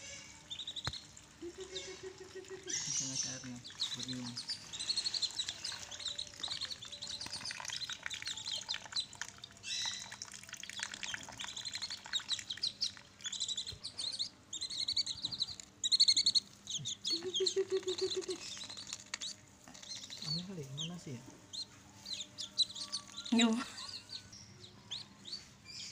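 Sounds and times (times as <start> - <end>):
ducklings peeping: 0.0 - 25.9.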